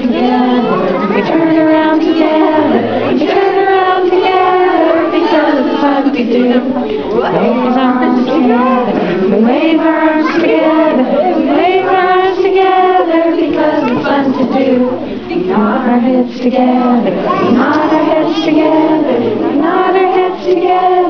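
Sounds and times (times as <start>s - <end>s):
adults and children singing: 0.0s - 21.0s.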